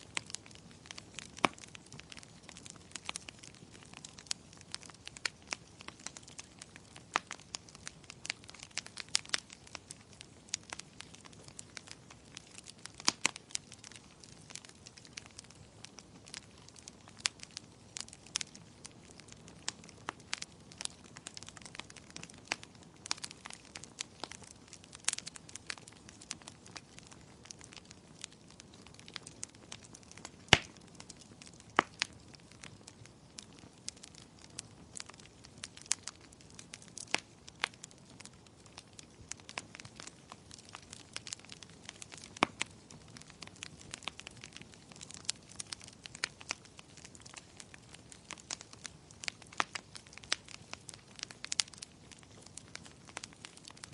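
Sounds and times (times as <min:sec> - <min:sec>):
faint steady hiss: 0:00.0 - 0:53.9
fire crackling in a fireplace: 0:00.0 - 0:53.9.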